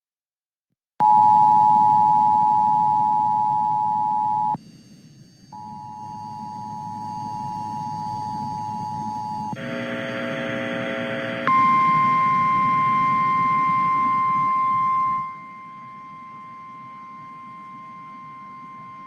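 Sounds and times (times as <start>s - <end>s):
two-tone alarm: 1.0s - 4.6s, 5.5s - 19.0s
low background hum: 1.1s - 19.0s.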